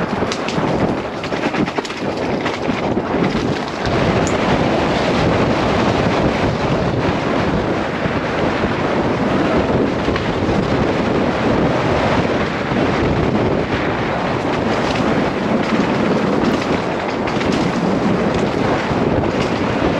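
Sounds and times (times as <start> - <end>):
bike tyre and trail rumble: 0.0 - 19.9
wind rushing over microphone: 0.0 - 19.9.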